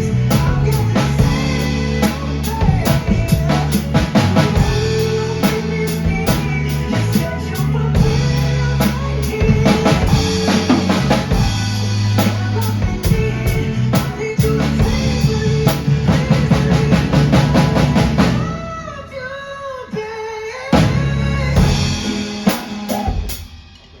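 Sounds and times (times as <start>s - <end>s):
drum kit playing: 0.0s - 19.0s, 20.7s - 24.0s
backing track melody: 0.0s - 20.1s, 20.7s - 24.0s.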